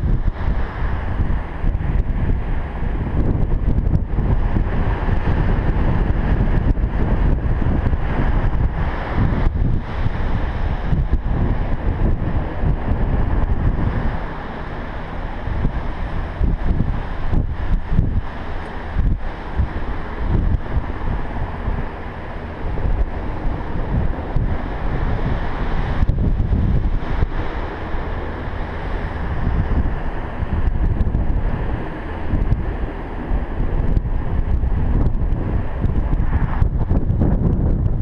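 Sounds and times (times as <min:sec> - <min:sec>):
ocean surf washing: 0:00.0 - 0:38.0
wind buffeting microphone: 0:00.0 - 0:38.0.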